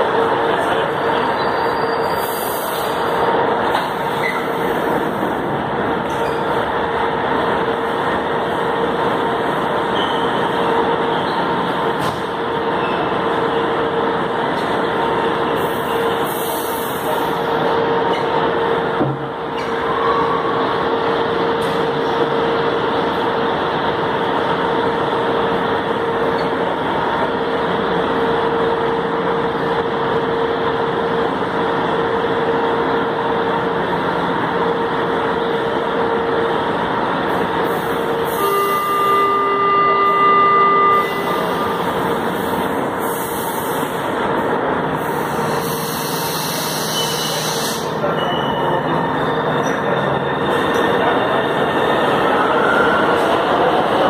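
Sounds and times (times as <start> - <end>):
train equipment humming: 0.0 - 54.0.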